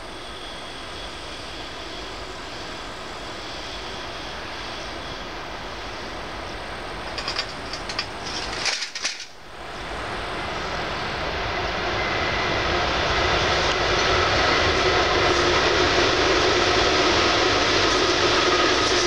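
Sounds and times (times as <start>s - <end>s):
freight train rumble: 0.0s - 19.0s
locomotive whine: 0.0s - 19.0s.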